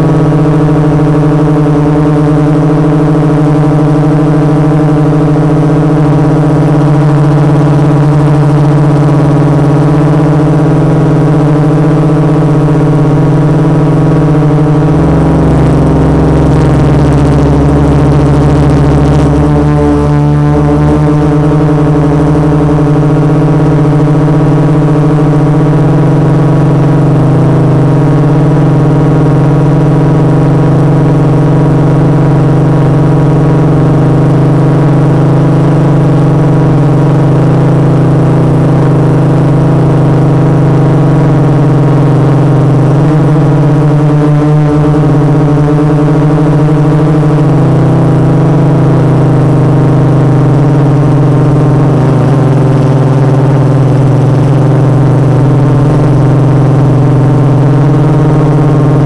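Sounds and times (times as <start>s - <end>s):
drone motors humming: 0.0s - 59.0s.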